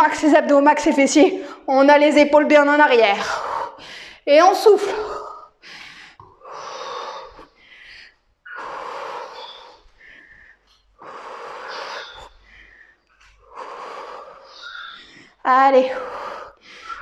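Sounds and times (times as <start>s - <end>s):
woman breathing heavily: 3.2s - 17.0s.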